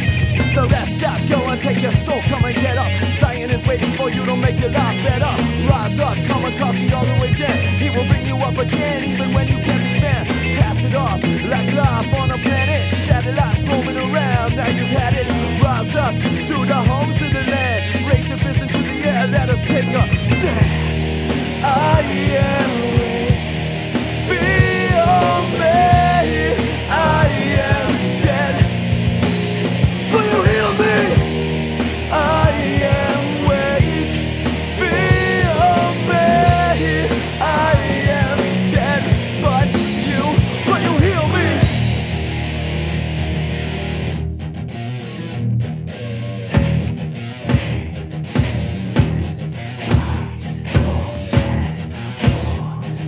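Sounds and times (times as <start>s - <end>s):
drums: 0.0s - 44.5s, 46.4s - 53.0s
lead guitar melody with pitch bends: 0.0s - 49.8s
bass: 0.0s - 53.0s
instrumental rock music: 0.0s - 53.0s.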